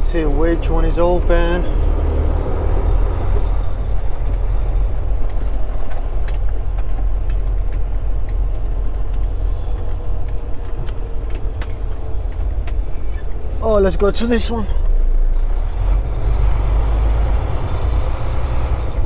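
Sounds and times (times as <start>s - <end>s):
truck diesel engine rumble: 0.0s - 19.0s.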